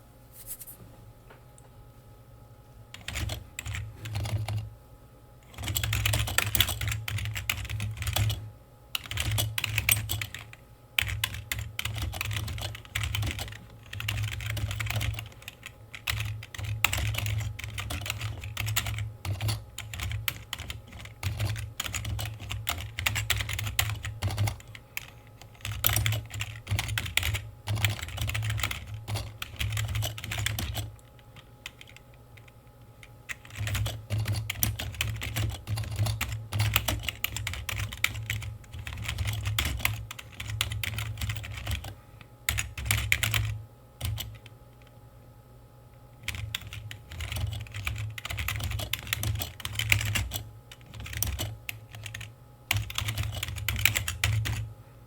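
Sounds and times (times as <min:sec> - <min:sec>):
typing on computer keyboard: 0:03.0 - 0:04.7, 0:05.5 - 0:08.4, 0:09.0 - 0:44.5, 0:46.2 - 0:54.7.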